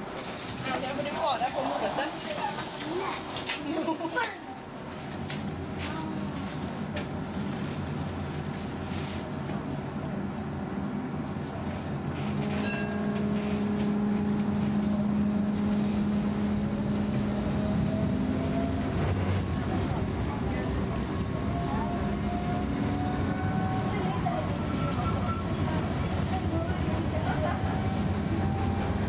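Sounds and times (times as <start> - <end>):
tram pulling away: 0.0 - 29.0.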